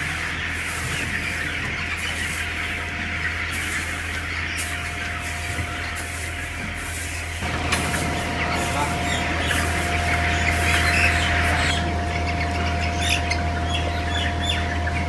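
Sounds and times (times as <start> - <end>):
chicks cheeping: 0.0 - 15.0
steady low hum: 0.0 - 15.0.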